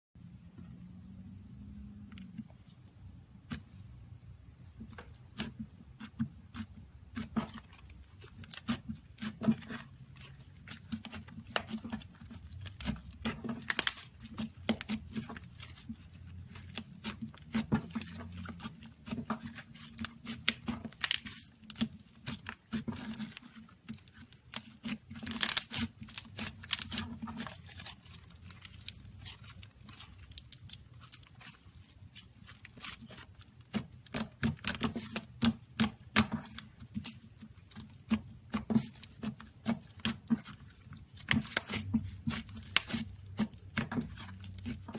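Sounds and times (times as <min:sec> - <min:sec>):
low steady hum: 0:00.2 - 0:38.0
slime squishing: 0:04.7 - 0:44.9.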